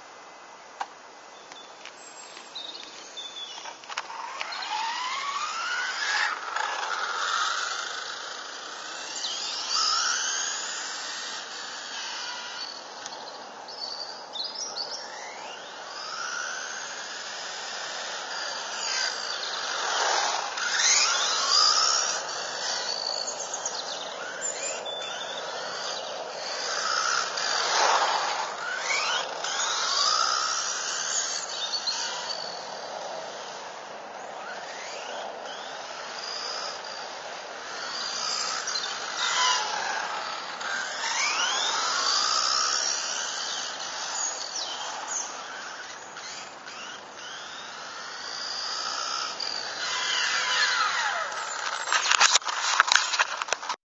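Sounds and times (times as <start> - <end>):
electric motor whining: 3.6 - 14.0, 15.0 - 33.6, 34.4 - 53.7.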